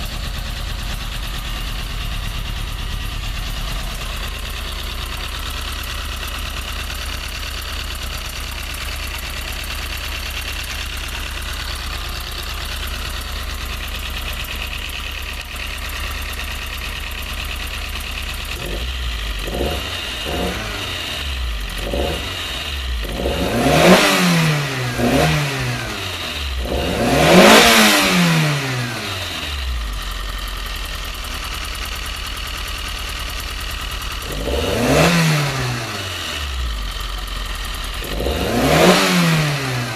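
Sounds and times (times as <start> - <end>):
car engine idling and revving: 0.0 - 39.9
engine ticking: 0.0 - 39.9.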